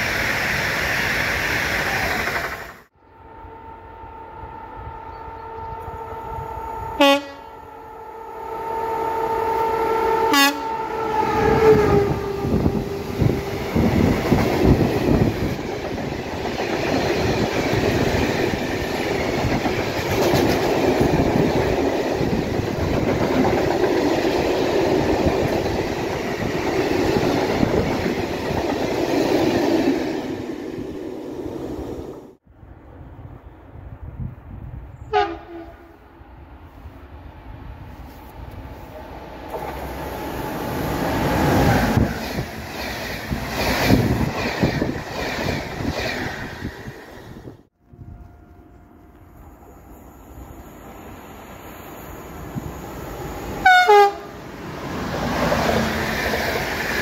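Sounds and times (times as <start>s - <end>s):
locomotive humming tone: 1.7s - 33.3s, 35.1s - 57.0s.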